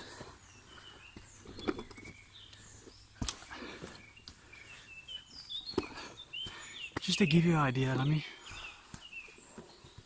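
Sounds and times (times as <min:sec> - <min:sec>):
birds chirping faintly: 0:00.0 - 0:10.0
footsteps on wet trail: 0:00.0 - 0:10.0.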